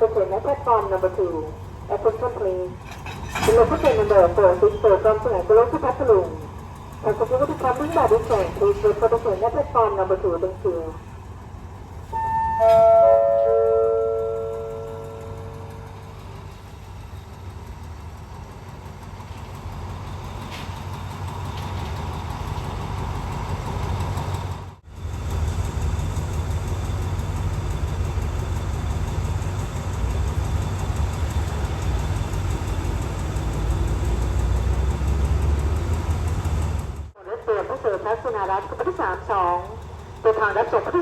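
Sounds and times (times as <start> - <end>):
diesel train engine rumbling: 0.0 - 41.0.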